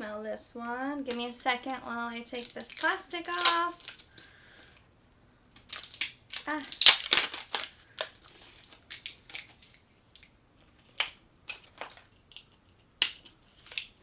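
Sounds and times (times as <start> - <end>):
plastic wrap crinkling: 1.1 - 4.8, 5.6 - 14.0.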